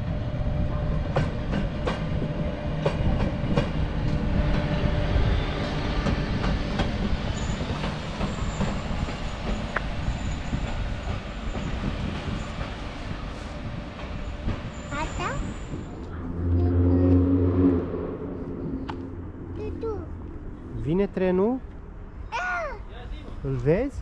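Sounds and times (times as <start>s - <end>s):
locomotive rumbling past: 0.0s - 22.2s.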